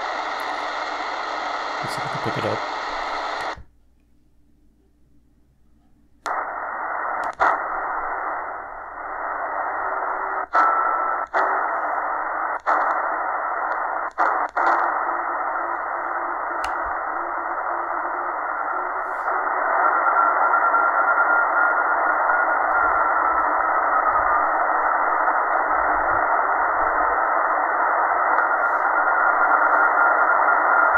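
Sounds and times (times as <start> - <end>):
faint steady radio tone: 0.0 - 3.7, 6.2 - 30.9
radio static hiss: 0.0 - 3.7, 6.3 - 30.9.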